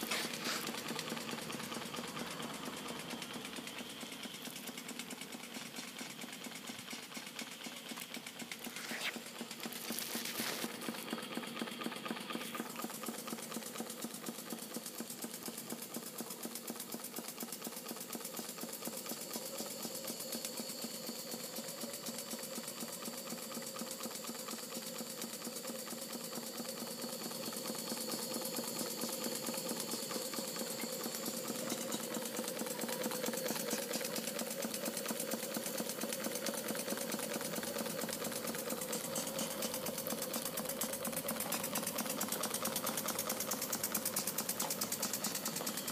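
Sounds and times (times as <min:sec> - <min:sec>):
model steam engine clicking and chuffing: 0:00.0 - 0:45.9.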